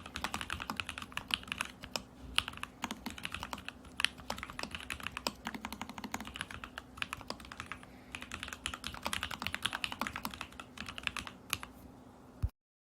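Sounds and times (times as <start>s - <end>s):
typing on mechanical keyboard: 0.0s - 11.7s.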